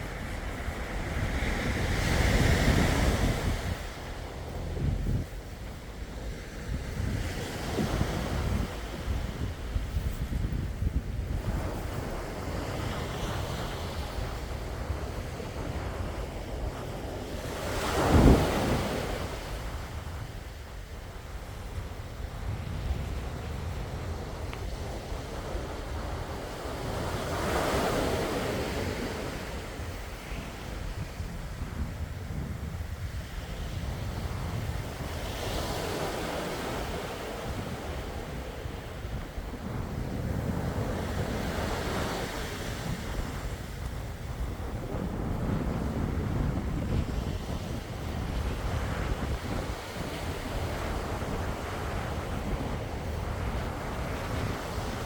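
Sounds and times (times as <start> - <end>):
sea waves washing ashore: 0.0 - 55.0
wind rumble on microphone: 0.0 - 55.0.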